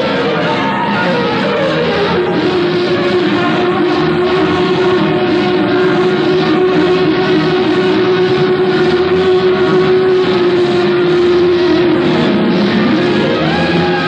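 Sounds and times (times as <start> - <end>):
crowd noise: 0.0 - 14.0.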